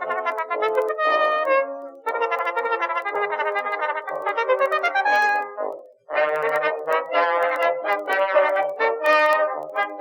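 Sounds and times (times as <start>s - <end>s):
brass playing a tune: 0.0s - 10.0s.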